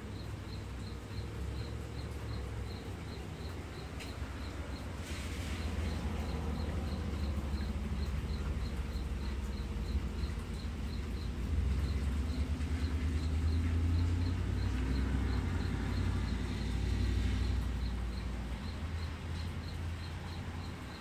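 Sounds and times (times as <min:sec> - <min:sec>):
faint high insect chirp: 0:00.0 - 0:21.0
low outdoor rumble: 0:00.0 - 0:21.0.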